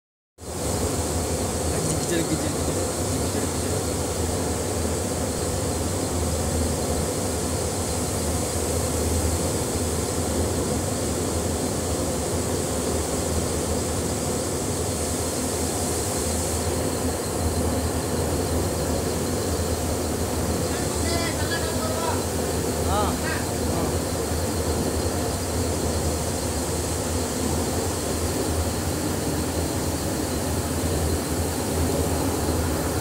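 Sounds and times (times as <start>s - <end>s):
mill machinery running: 0.4s - 33.0s.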